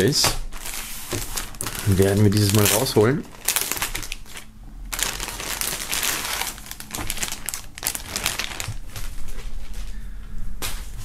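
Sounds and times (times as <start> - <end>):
plastic bag crinkling: 0.6 - 9.8.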